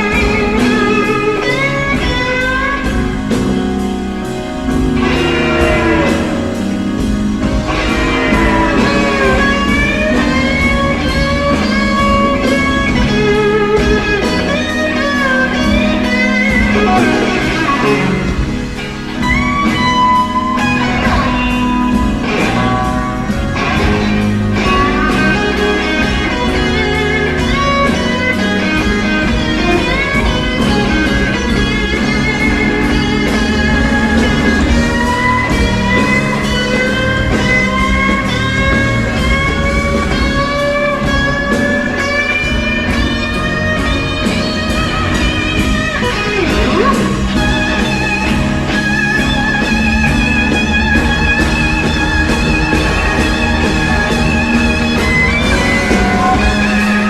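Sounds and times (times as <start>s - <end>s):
bass and drums: 0.0s - 57.0s
electric blues guitar solo: 0.0s - 57.0s.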